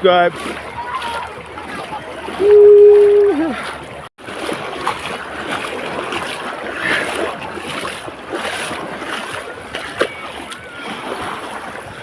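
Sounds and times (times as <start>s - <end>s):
surf washing: 0.0s - 12.0s.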